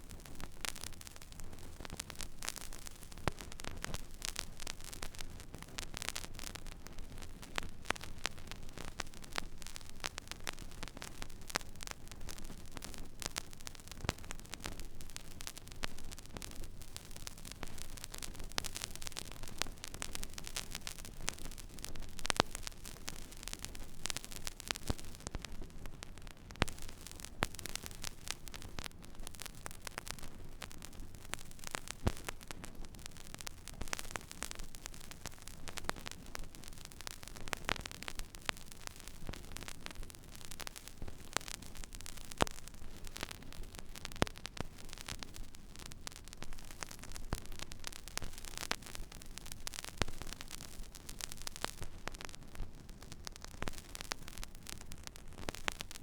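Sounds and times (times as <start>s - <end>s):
vinyl crackles and pops: 0.0s - 56.0s
vinyl surface hiss: 0.0s - 56.0s.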